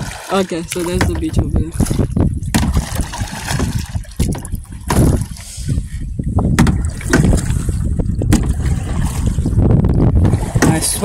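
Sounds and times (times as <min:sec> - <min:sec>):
paddles knocking: 0:00.0 - 0:05.4, 0:06.4 - 0:09.3, 0:10.2 - 0:11.0
water sloshing around a hull: 0:00.0 - 0:11.0
wind rumble on microphone: 0:00.0 - 0:11.0.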